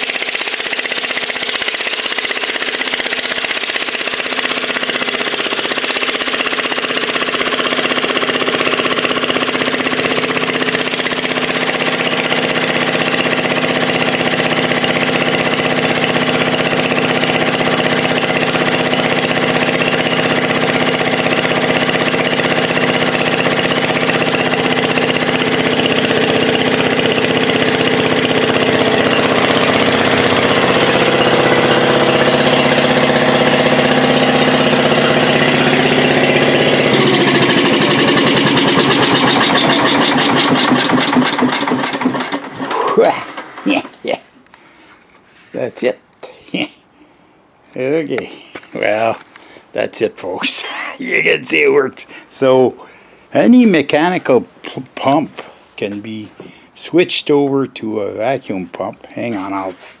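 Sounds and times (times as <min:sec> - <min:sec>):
generator engine running: 0:00.0 - 0:45.2, 0:47.8 - 0:56.8.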